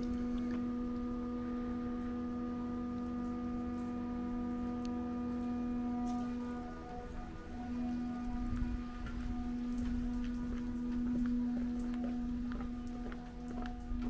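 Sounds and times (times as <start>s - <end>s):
sustained musical drone: 0.0s - 14.0s.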